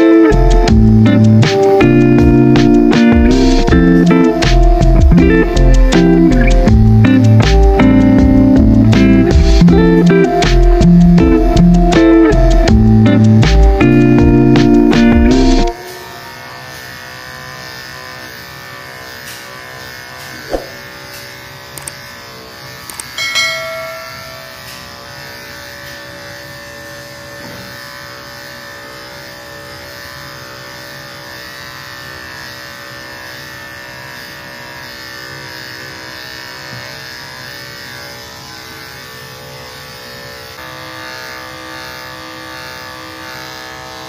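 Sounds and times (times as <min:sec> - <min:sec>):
electric clipper buzzing: 0:00.0 - 0:44.0.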